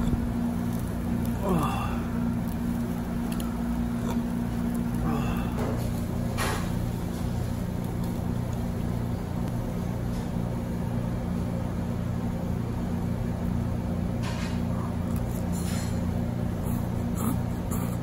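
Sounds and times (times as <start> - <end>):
ventilation machinery hum: 0.0 - 18.0.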